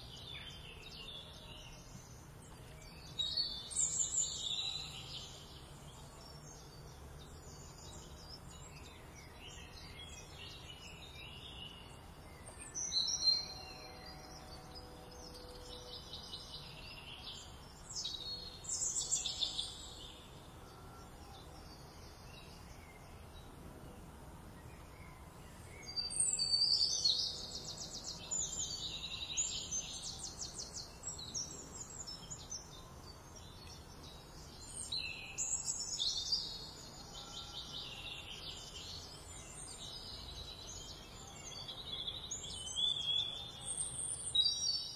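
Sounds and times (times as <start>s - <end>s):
faint outdoor hiss: 0.0s - 44.9s
songbirds chirping and singing: 0.0s - 44.9s.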